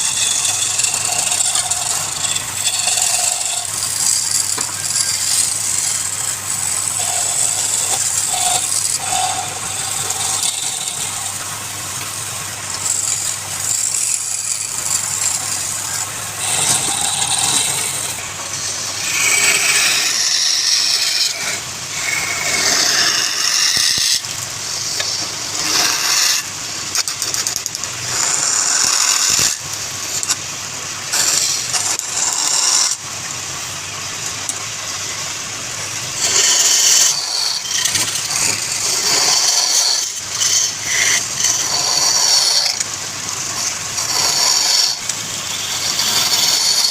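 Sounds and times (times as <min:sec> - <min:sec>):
faint motor hum: 0:00.0 - 0:46.9
lathe tool cutting wood: 0:00.0 - 0:46.9.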